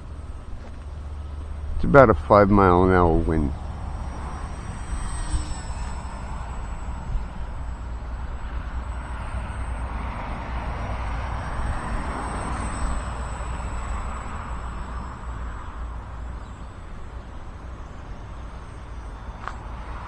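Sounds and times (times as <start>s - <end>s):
model plane motor buzzing: 0.0s - 20.0s
wind buffeting microphone: 0.0s - 20.0s.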